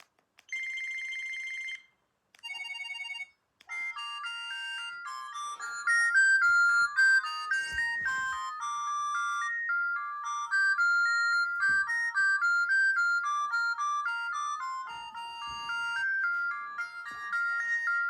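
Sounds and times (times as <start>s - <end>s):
mobile phone ringtone melody: 0.5s - 18.0s.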